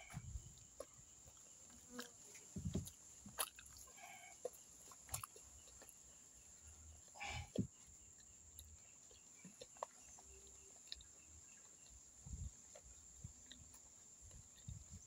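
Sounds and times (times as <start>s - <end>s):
soft chewing: 0.5s - 15.0s.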